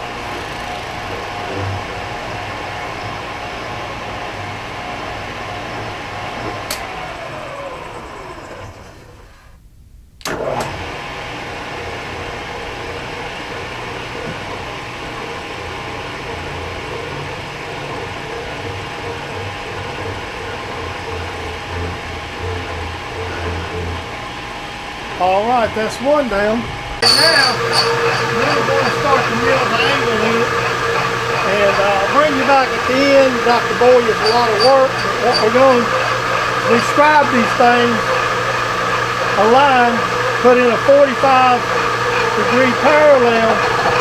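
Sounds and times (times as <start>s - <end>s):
spindle motor running: 0.0s - 9.4s, 10.3s - 44.0s
motor winding down whine: 0.0s - 9.5s, 10.2s - 44.0s.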